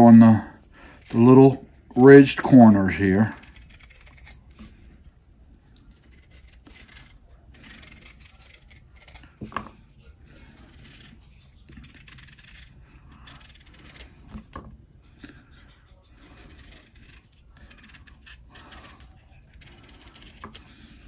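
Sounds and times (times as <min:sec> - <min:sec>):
knife scraping banana peel: 0:00.0 - 0:05.1, 0:05.8 - 0:14.6, 0:15.4 - 0:21.0.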